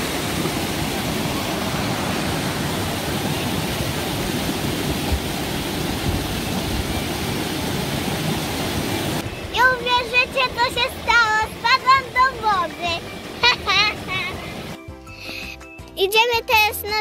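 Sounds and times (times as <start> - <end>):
water rushing over rocks: 0.0 - 14.8.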